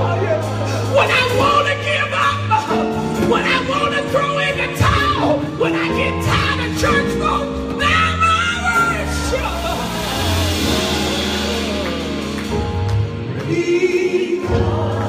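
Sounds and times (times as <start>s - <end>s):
gospel worship music: 0.0s - 15.0s.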